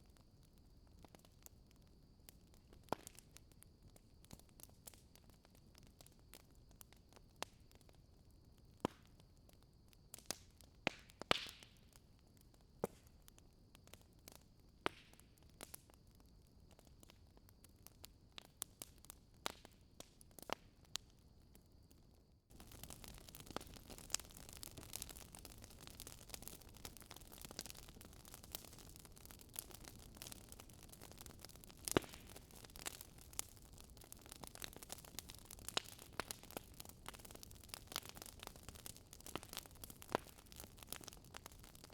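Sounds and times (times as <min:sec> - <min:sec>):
wood fire crackling: 0:00.0 - 0:21.7, 0:22.5 - 0:41.9.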